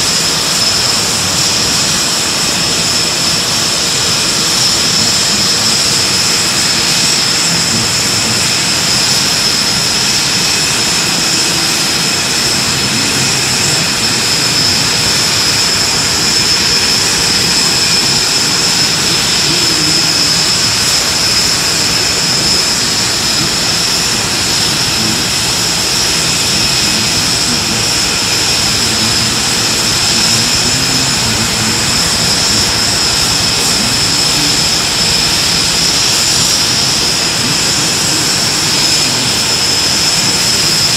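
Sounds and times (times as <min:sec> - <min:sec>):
aircraft turbine engine whine: 0:00.0 - 0:40.9.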